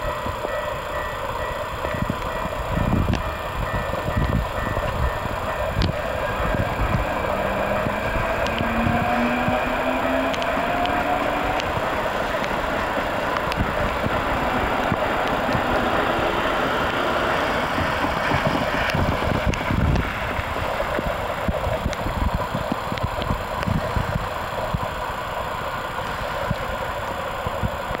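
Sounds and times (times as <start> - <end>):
electric train rumble: 0.0 - 28.0
rain-wet street hiss: 0.0 - 28.0
wind buffeting microphone: 0.0 - 28.0.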